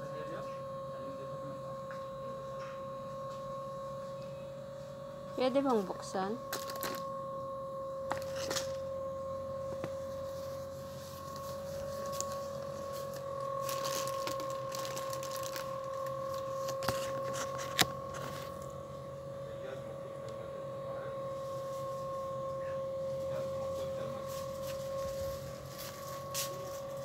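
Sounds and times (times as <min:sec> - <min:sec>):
high-pitched electrical hum: 0:00.0 - 0:27.0.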